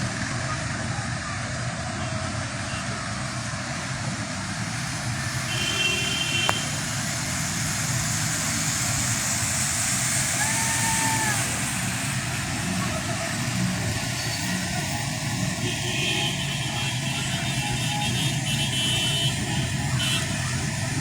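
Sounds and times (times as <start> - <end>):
rain hissing: 0.0 - 21.0
traffic on wet streets: 0.0 - 21.0.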